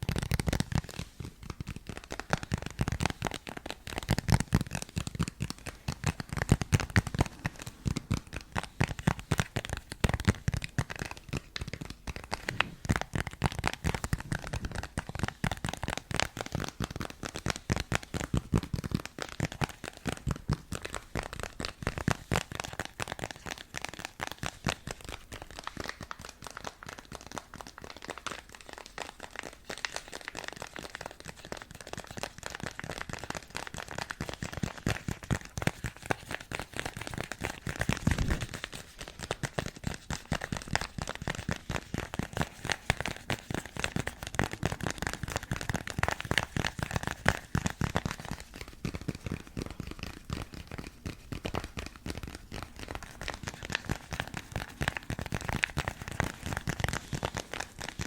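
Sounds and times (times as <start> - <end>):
fast tapping on hard object: 0.0 - 58.0.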